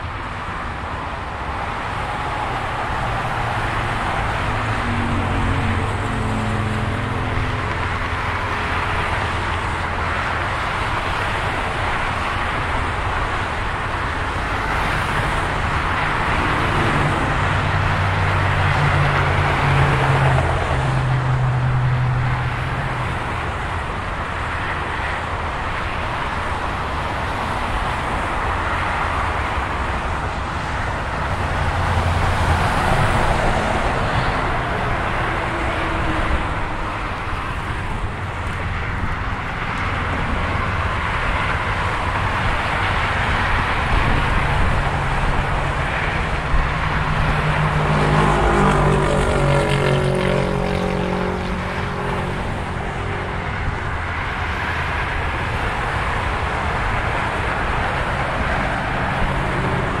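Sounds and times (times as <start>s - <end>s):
freeway traffic: 0.0s - 60.0s.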